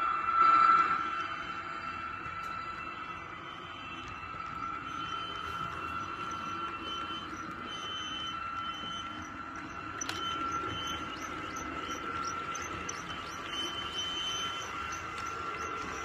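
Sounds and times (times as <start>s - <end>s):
high whine: 0.0s - 16.0s
model train coaches rolling: 1.9s - 16.0s.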